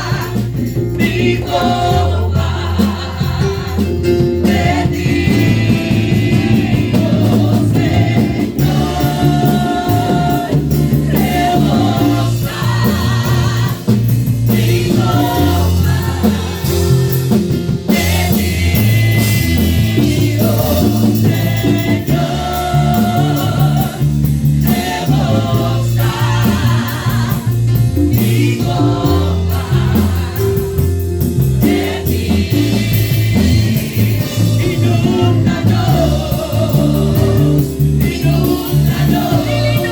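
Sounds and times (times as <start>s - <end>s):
bass line: 0.0s - 39.9s
voices singing over a band: 0.0s - 39.9s.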